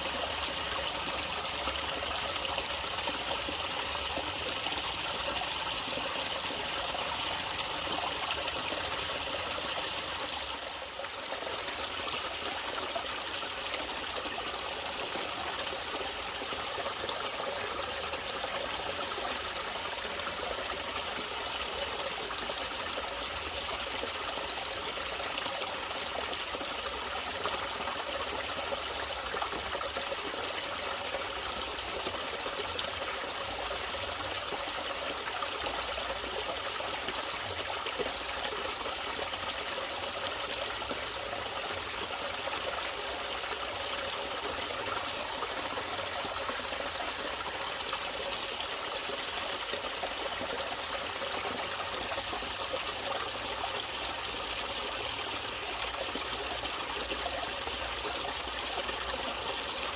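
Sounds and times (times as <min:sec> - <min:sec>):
water trickling in stream: 0:00.0 - 0:59.9.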